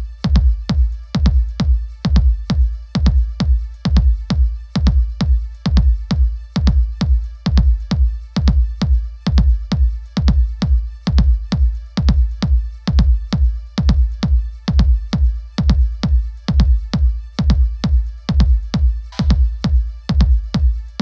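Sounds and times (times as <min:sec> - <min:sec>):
drum machine kick beat: 0:00.0 - 0:21.0
electronic dance music: 0:00.0 - 0:21.0.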